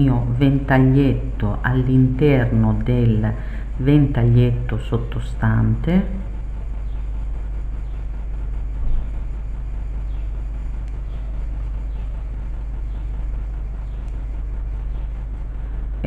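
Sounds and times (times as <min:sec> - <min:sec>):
deep continuous hum: 0:00.0 - 0:16.0
steady low rumble: 0:00.0 - 0:16.0.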